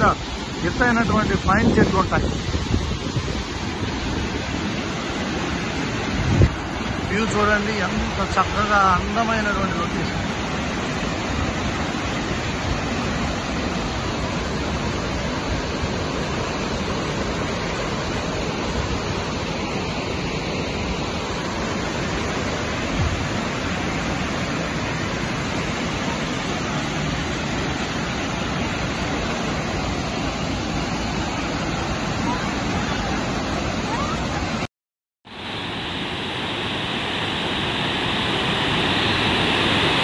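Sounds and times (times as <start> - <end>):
waterfall rushing: 0.0 - 34.7, 35.3 - 40.0.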